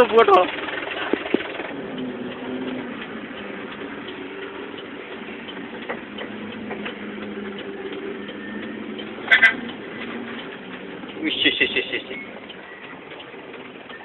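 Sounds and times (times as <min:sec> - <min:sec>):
light ticking: 0:00.0 - 0:14.0
truck engine idling: 0:00.0 - 0:14.0.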